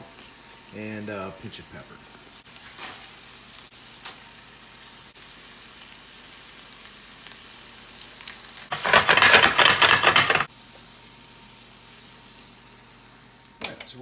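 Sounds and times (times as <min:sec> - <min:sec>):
loud burst of sizzling: 0:00.0 - 0:13.5
meat sizzling in a pan: 0:00.0 - 0:13.7.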